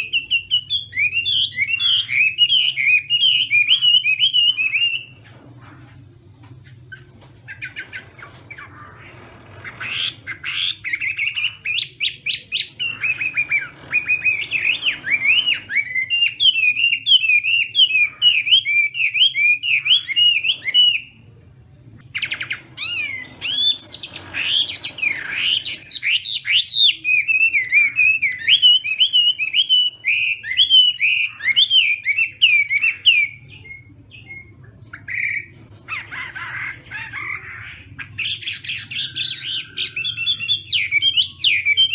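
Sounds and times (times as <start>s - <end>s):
faint low hum: 0.0s - 41.9s.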